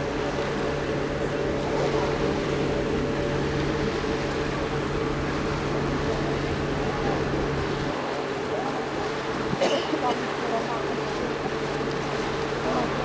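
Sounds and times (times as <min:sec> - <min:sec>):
ferry engines droning: 0:00.0 - 0:13.0.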